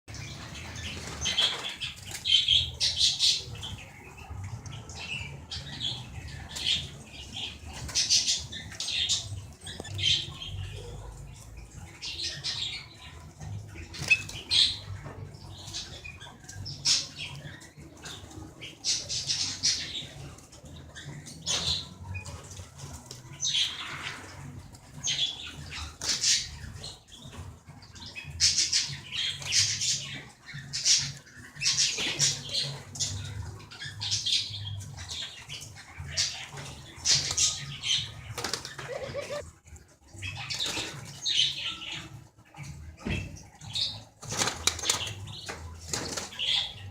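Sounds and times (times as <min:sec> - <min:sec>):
small birds chirping and warbling: 0:00.0 - 0:46.9.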